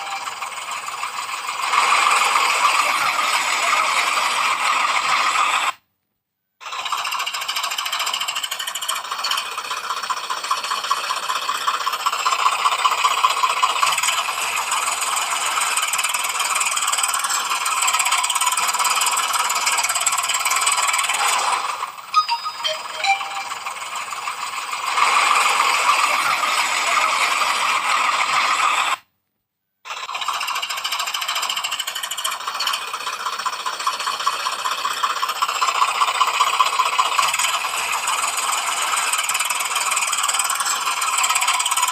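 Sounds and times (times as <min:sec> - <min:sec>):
toy motor whirring rattle: 0:00.0 - 0:05.8, 0:06.6 - 0:29.0, 0:29.9 - 0:41.9.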